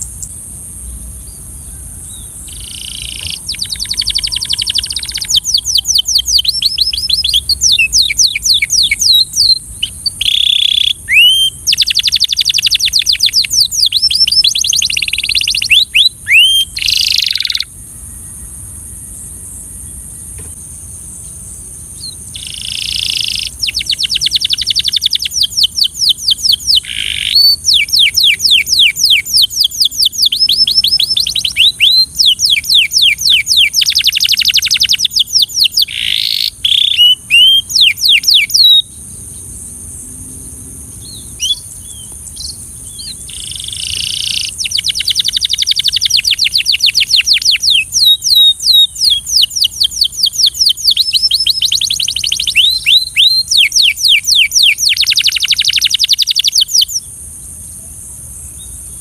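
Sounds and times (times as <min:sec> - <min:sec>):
canary singing trills: 0:00.0 - 0:20.6, 0:21.2 - 0:39.5, 0:40.4 - 0:57.2
steady high hiss: 0:00.0 - 0:59.0.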